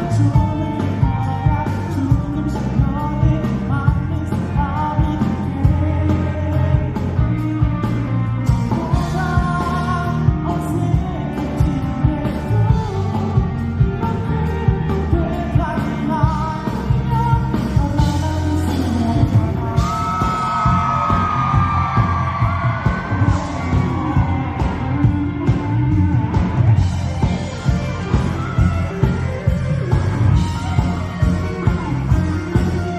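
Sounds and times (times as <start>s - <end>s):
pop-rock band with vocals: 0.0s - 32.9s.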